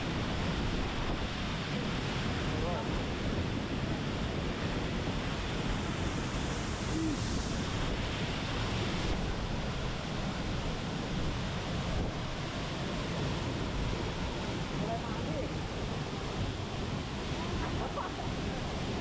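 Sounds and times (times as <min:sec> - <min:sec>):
waterfall rushing: 0:00.9 - 0:19.0.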